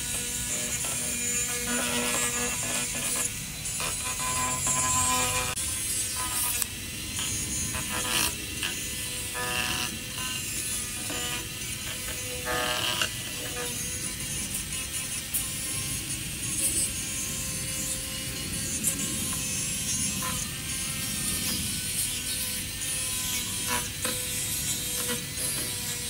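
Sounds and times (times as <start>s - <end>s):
rotary tool grinding wood: 0.0s - 26.0s.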